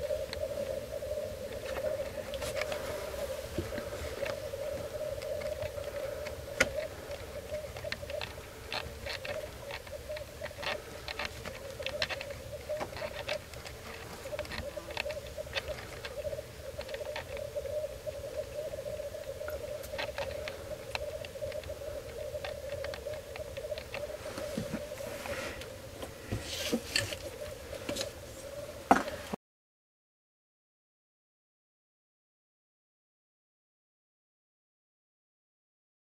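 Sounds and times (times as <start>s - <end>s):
grouse bubbling chorus: 0.0s - 29.2s.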